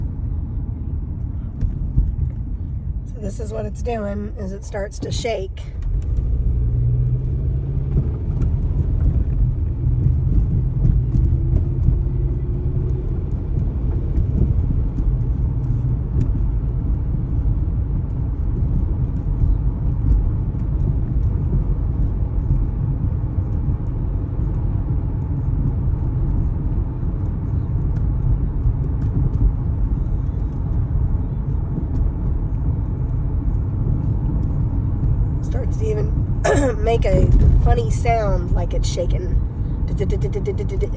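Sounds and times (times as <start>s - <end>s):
car engine low rumble: 0.0s - 40.9s.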